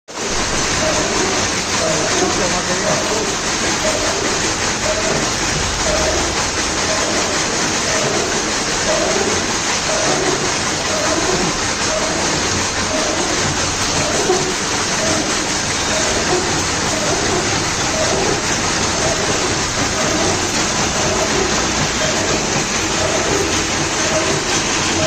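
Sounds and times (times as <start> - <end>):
gear-cutting machine hiss: 0.2 - 25.0.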